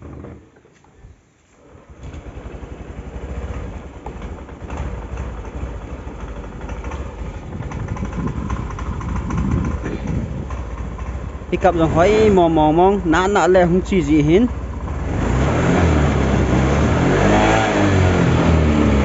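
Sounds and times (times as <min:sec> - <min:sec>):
scooter engine starting and running: 0:00.0 - 0:19.0.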